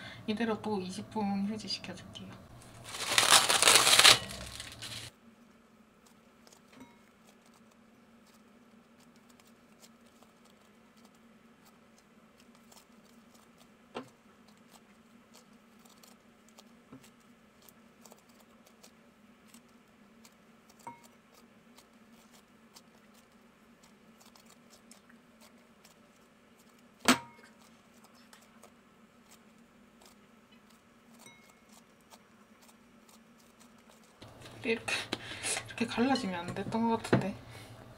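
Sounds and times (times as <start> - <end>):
low steady hum: 0.0 - 37.9
hands squeezing bread dough: 2.6 - 5.2, 6.0 - 36.0.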